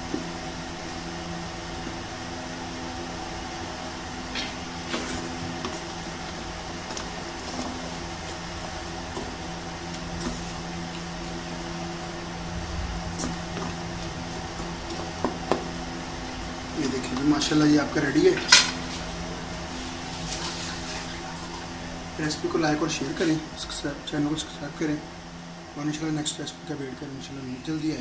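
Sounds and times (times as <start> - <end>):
appliance humming: 0.0 - 28.0.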